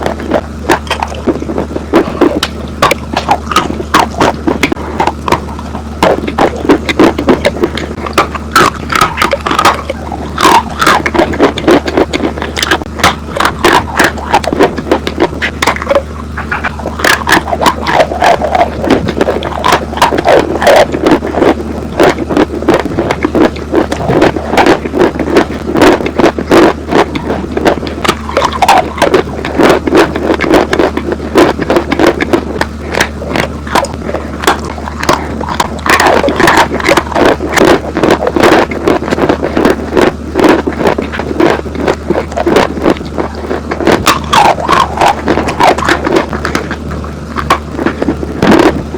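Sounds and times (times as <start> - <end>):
chewing crunchy chalk: 0.0 - 48.9
steady low hum: 0.0 - 48.9.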